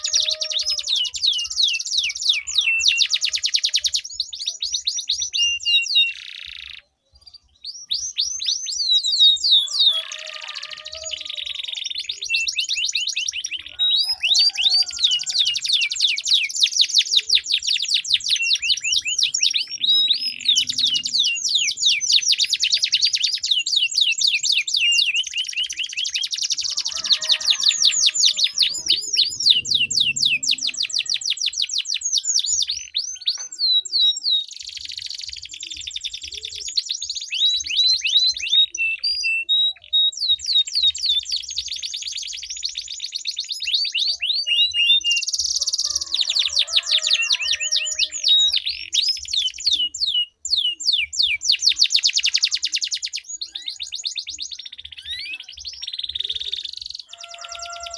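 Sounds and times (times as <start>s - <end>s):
canaries singing trills: 0.0s - 57.9s.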